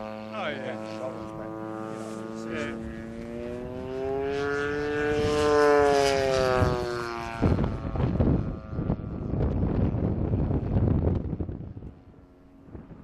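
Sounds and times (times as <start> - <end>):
model aircraft engine flying: 0.0 - 13.0
wind buffeting microphone: 0.5 - 13.0.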